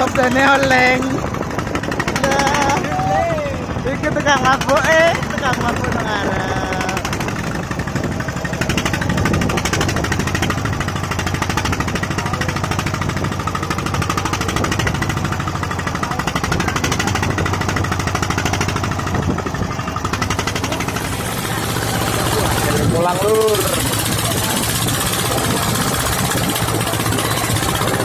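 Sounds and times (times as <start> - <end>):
boat engine chugging: 0.0 - 28.0.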